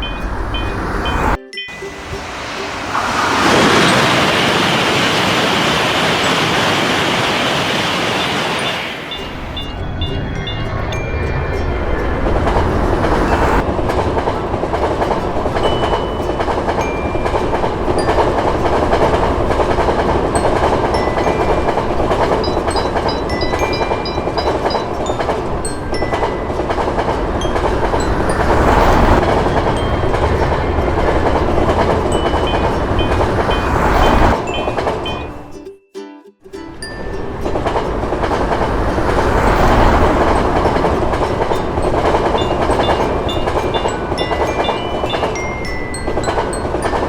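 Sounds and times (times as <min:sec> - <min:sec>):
train passing: 0:00.0 - 0:47.0.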